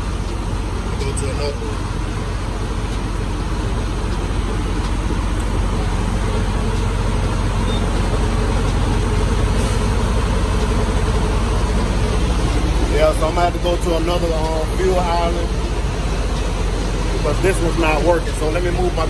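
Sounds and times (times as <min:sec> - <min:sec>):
diesel truck engines idling: 0:00.0 - 0:19.0.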